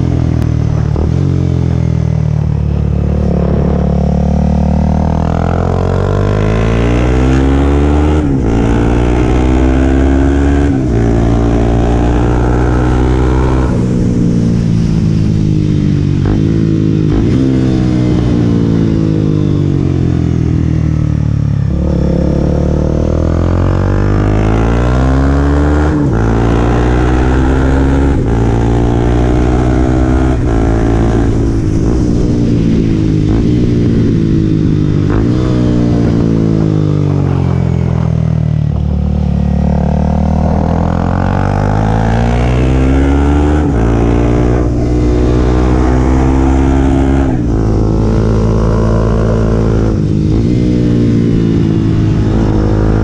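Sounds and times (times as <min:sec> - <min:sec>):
motorcycle engine revving through gears: 0:00.0 - 0:53.0.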